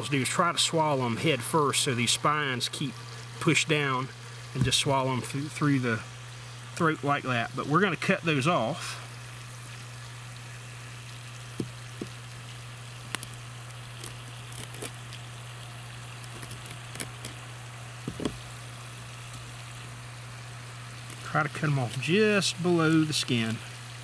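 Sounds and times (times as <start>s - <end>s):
water pump humming: 0.0s - 24.0s.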